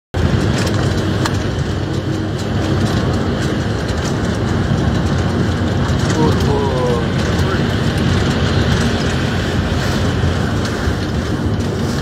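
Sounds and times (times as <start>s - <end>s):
locomotive engine rumble: 0.2s - 12.0s
rail and wind noise: 0.2s - 12.0s.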